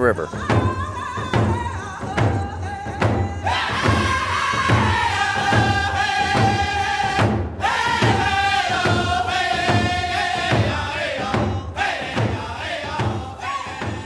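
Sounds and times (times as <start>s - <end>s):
steady drum beat: 0.0s - 14.0s
chant-like melody: 0.1s - 14.0s.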